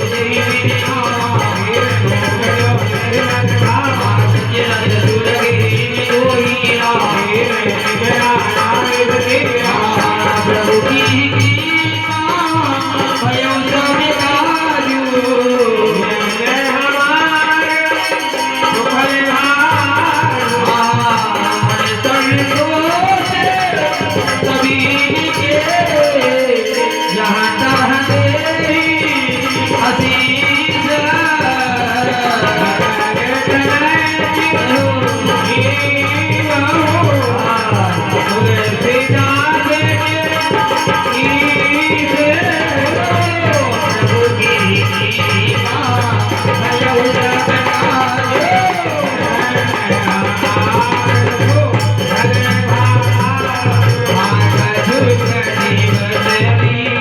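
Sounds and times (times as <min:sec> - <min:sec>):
rattling percussion: 0:00.0 - 0:57.0.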